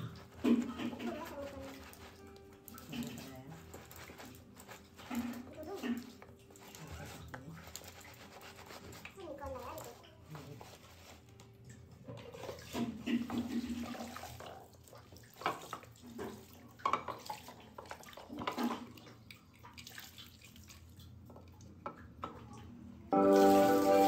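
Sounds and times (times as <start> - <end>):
water splashing from a mug: 0.0 - 10.7, 11.6 - 22.6.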